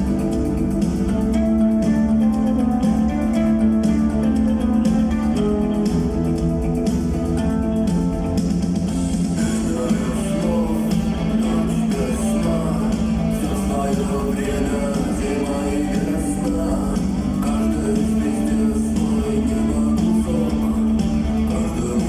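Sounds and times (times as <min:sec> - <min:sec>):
guitars: 0:00.0 - 0:22.0
live rock band playing: 0:00.0 - 0:22.0.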